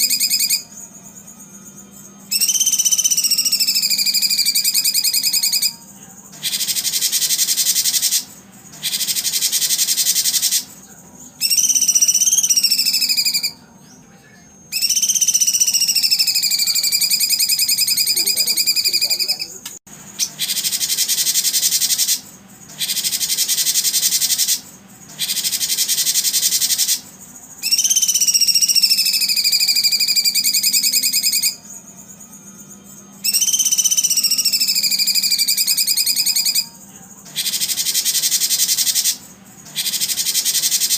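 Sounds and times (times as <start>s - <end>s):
high whistled bird phrases: 0.0s - 0.7s, 2.3s - 5.8s, 6.4s - 10.8s, 11.4s - 13.7s, 14.7s - 27.0s, 27.6s - 31.6s, 33.2s - 36.7s, 37.3s - 40.9s
recorded buzzy bird trills: 0.0s - 40.9s.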